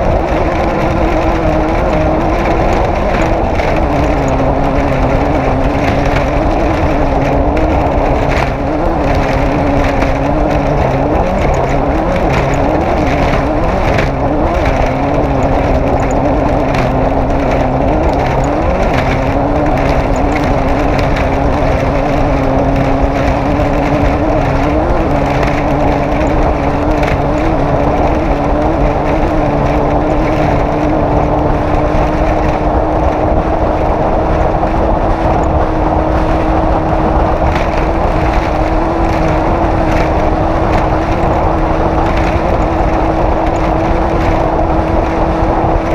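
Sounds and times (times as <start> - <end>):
race car engine running hard: 0.0 - 45.9.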